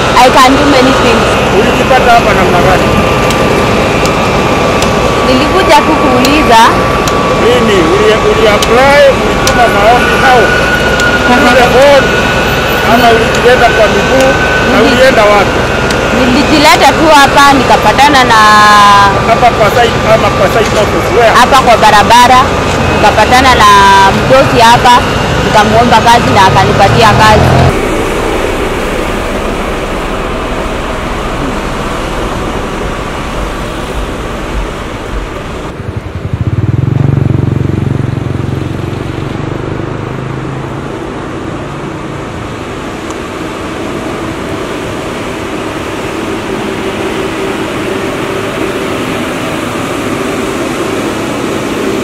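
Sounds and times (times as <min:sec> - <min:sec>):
deep engine hum: 0:00.0 - 0:52.0
road roller diesel engine: 0:00.0 - 0:52.0
road traffic noise: 0:00.0 - 0:52.0.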